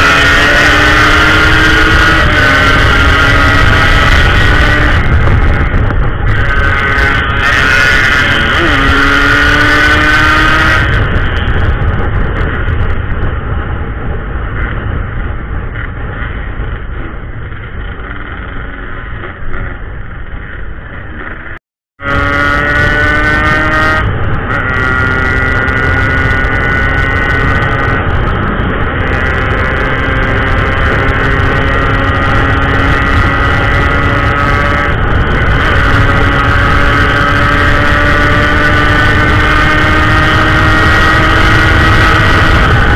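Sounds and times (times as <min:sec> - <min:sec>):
motorcycle engine revving: 0:00.0 - 0:42.9
wind on microphone: 0:00.0 - 0:42.9.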